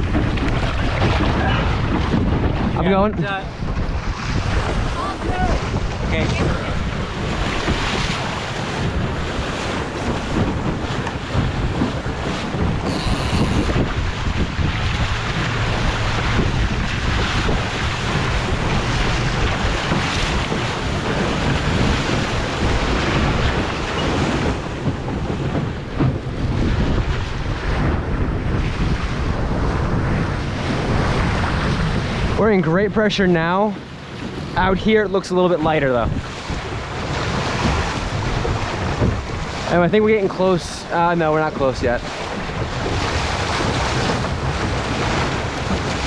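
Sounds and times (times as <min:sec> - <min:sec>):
water rushing along hull: 0:00.0 - 0:46.0
wind buffeting microphone: 0:00.0 - 0:46.0.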